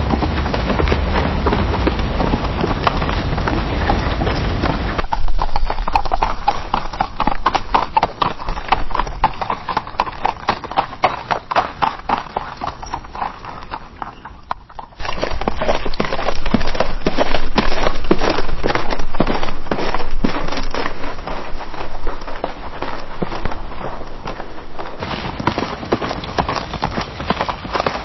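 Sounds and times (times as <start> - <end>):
horse hoofbeats on dirt: 0.0 - 28.0.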